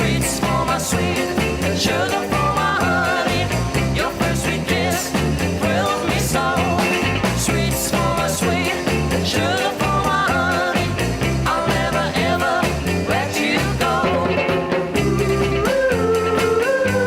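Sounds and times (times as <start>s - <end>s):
repeating bass line: 0.0s - 17.0s.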